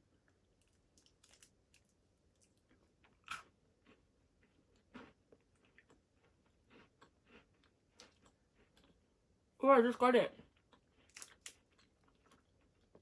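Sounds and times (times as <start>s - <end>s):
quiet chewing with soft crunches: 0.0s - 9.3s, 10.3s - 13.0s.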